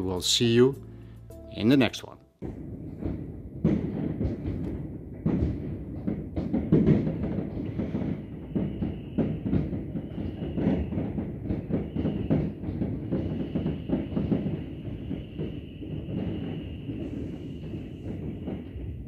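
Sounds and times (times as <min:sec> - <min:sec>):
fireworks bangs through window: 0:02.4 - 0:19.0.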